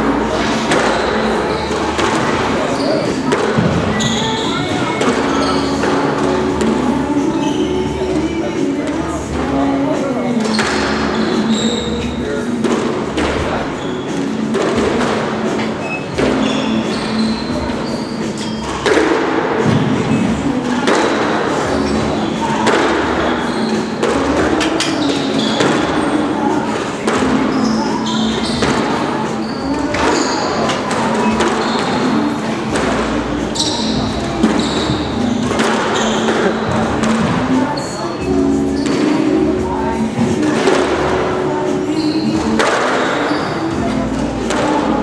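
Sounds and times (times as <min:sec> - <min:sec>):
racquet striking squash ball: 0:00.0 - 0:45.0
shoes squeaking on court floor: 0:00.0 - 0:45.0.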